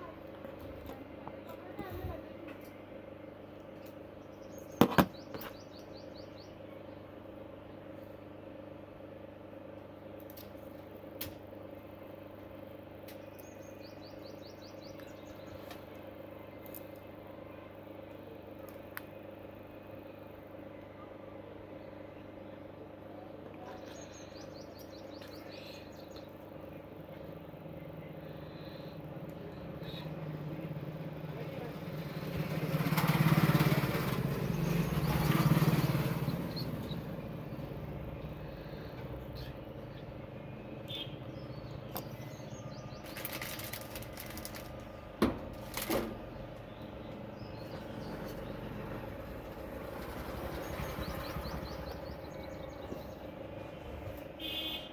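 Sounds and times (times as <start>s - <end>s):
steady low hum: 0.0s - 33.0s, 33.6s - 54.9s.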